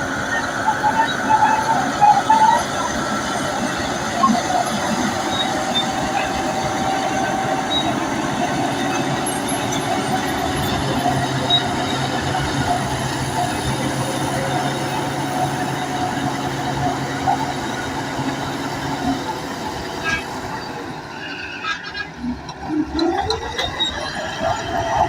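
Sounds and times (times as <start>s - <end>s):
diesel engine running: 0.0s - 25.0s
steel tracks squeaking: 0.0s - 25.0s.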